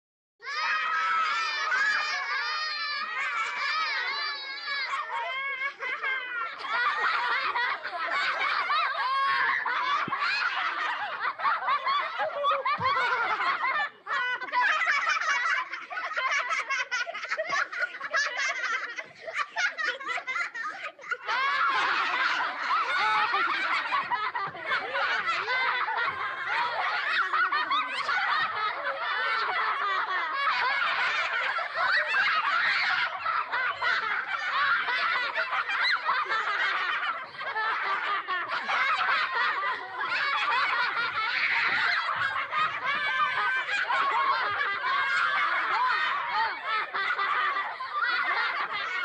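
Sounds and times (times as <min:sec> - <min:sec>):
children laughing and giggling: 0:00.4 - 0:49.0.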